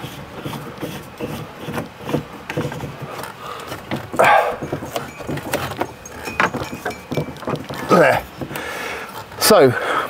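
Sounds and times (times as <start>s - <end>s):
sunroof knocks clicks and rattles: 0.0s - 9.6s.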